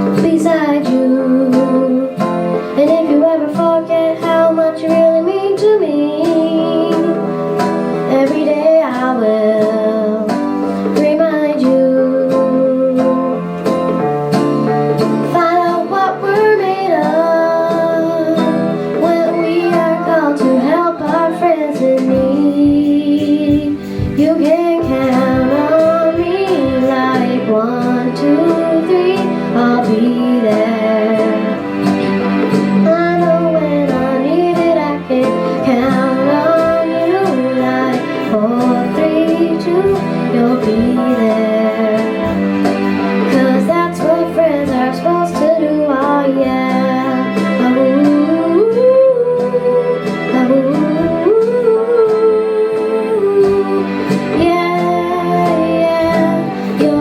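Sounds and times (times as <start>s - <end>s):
girl singing pop song: 0.0s - 57.0s
plucked guitar: 0.0s - 57.0s.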